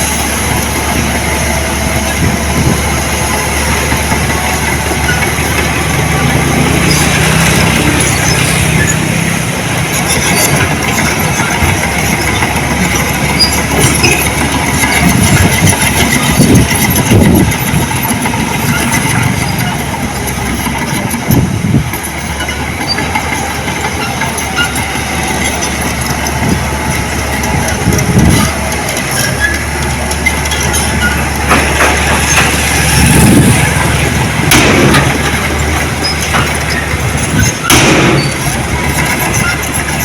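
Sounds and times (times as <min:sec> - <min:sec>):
diesel engine running loudly: 0:00.0 - 0:40.0
metallic rattling and clanking: 0:00.1 - 0:40.0.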